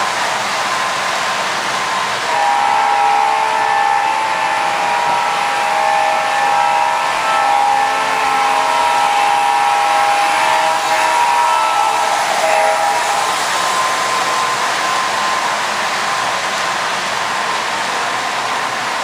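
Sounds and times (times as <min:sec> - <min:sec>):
electronic locomotive tone: 0:00.0 - 0:19.0
model trains whirring on track: 0:00.0 - 0:19.0.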